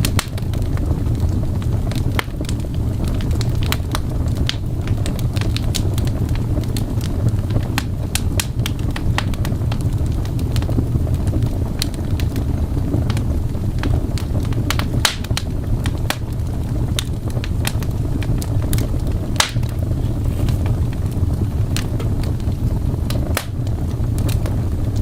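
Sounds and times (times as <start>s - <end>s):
fire crackling and popping: 0.0s - 25.0s
low fire rumble: 0.0s - 25.0s.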